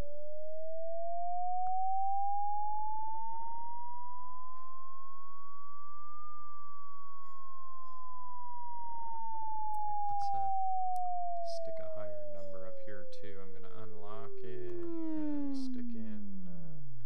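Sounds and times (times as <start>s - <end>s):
sine tone gliding up and down: 0.0s - 17.0s.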